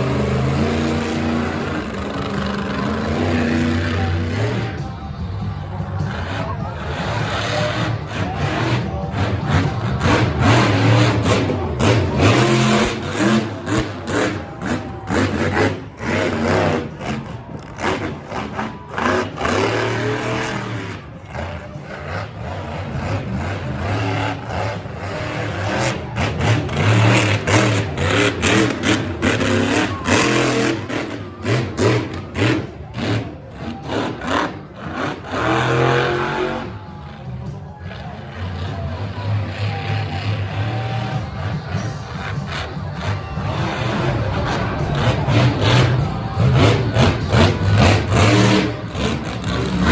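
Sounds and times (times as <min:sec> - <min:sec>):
monster truck engine revving: 0:00.0 - 0:49.9.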